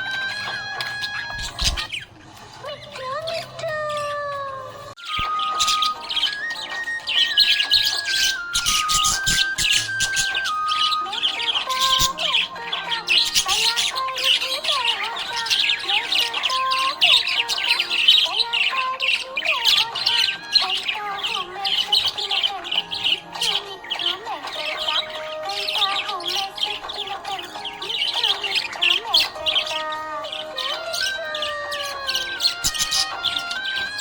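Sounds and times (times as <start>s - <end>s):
parrots chattering and squawking: 0.0s - 34.0s
soft background music: 0.0s - 34.0s.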